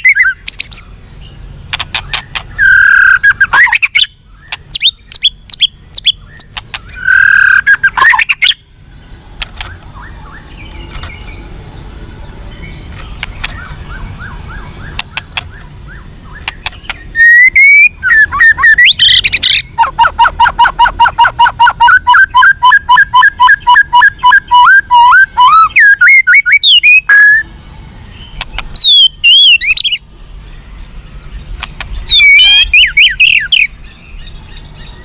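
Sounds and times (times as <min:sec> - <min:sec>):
songbird singing whistled song: 0:00.0 - 0:11.5, 0:12.2 - 0:35.0.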